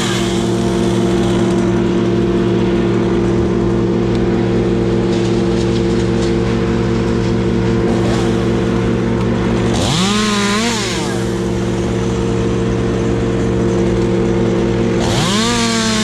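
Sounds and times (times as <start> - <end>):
chainsaw revving: 0.0 - 16.0
engine running at high speed: 0.0 - 16.0.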